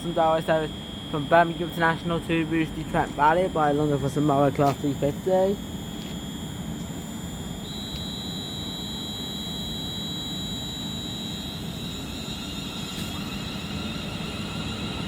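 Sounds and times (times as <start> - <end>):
electric traction whine: 0.0 - 15.0.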